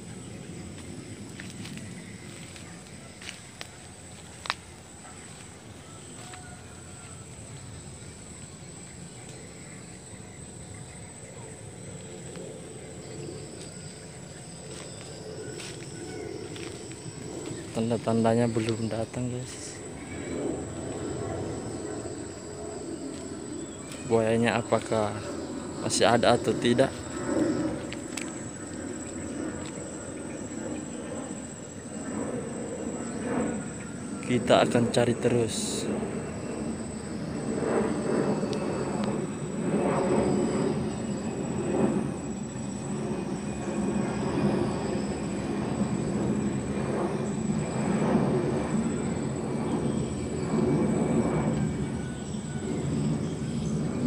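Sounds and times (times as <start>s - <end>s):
high-pitched insect trill: 0.0s - 54.0s
high-pitched whine: 0.0s - 54.0s
low background hum: 0.0s - 54.0s.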